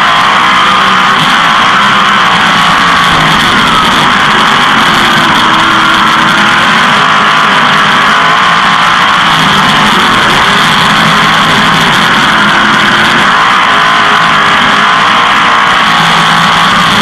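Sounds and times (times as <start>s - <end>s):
racing engine running hard: 0.0s - 17.0s.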